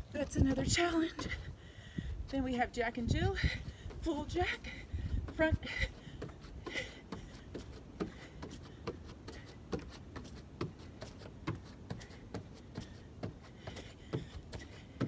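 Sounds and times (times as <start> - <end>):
feet thudding from jumping jacks: 0.2 - 15.0.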